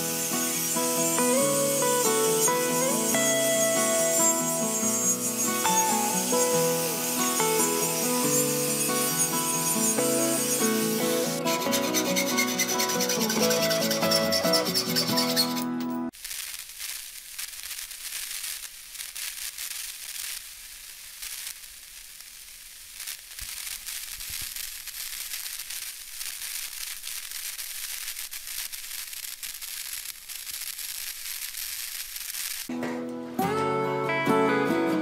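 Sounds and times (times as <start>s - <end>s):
crackling hiss with fine clicks: 0.0s - 11.5s, 16.1s - 32.7s.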